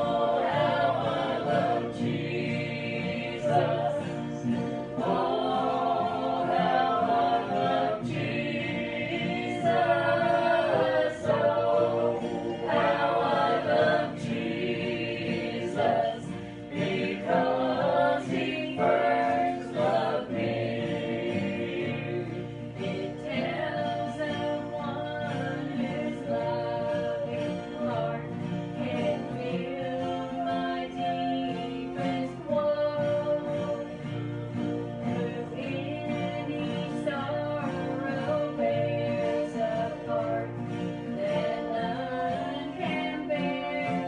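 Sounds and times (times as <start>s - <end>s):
group singing a hymn: 0.0s - 44.0s
strummed acoustic guitars: 0.0s - 44.0s.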